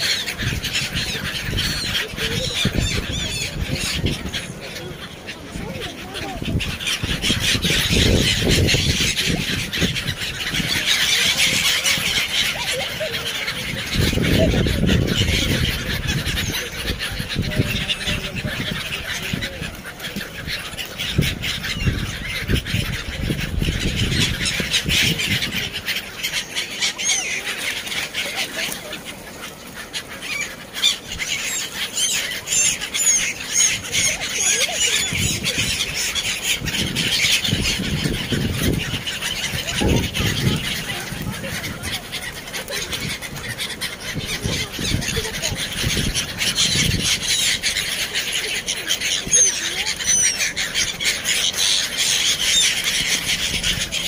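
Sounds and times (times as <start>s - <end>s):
gulls calling: 0.0s - 54.0s.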